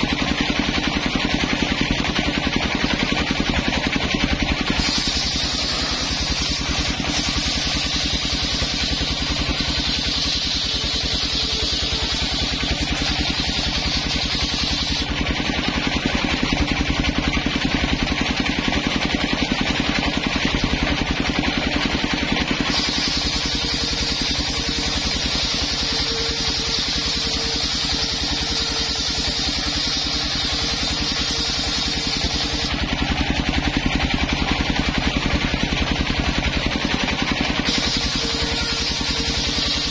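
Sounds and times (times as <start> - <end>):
circular saw blade cutting wood: 0.0 - 39.9
engine running: 0.0 - 39.9.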